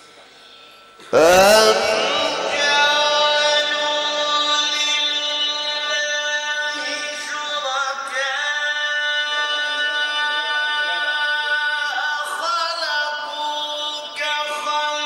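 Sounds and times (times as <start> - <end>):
man chanting into a microphone: 1.1 - 15.0.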